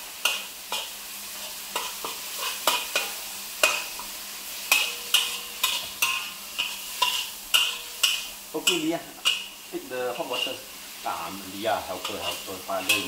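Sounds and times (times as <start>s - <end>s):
food sizzling: 0.0s - 13.0s
metal spatula scraping a wok: 0.1s - 11.0s, 11.8s - 13.0s.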